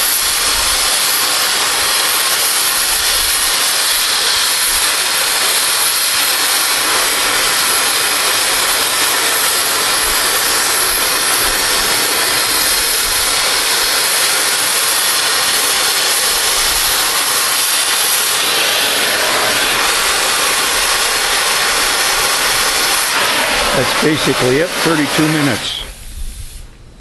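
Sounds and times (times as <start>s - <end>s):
cutting torch hissing: 0.0s - 26.8s.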